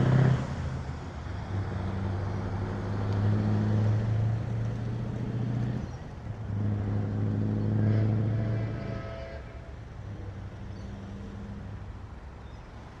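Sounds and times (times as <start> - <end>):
diesel truck driving past: 0.0 - 13.0.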